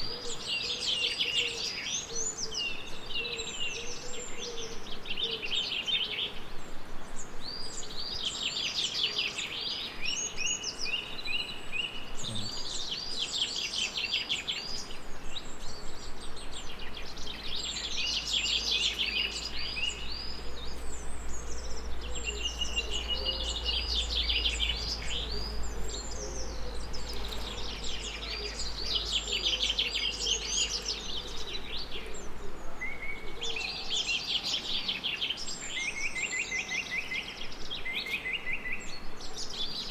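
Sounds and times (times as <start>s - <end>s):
background hiss: 0.0s - 39.9s
songbirds singing: 0.0s - 39.9s.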